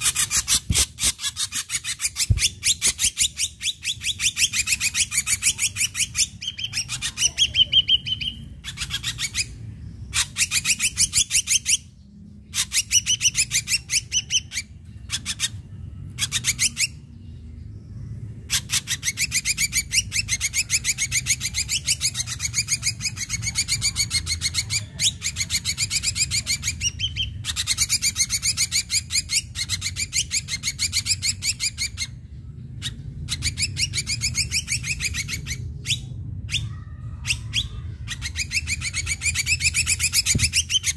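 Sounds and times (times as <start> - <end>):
bird singing rapid chattering notes: 0.0 - 40.9.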